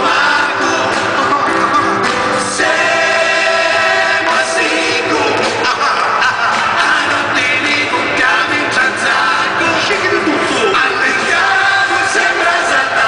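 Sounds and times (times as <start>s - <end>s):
amplified backing music: 0.0s - 13.0s
men singing into microphones: 0.0s - 13.0s.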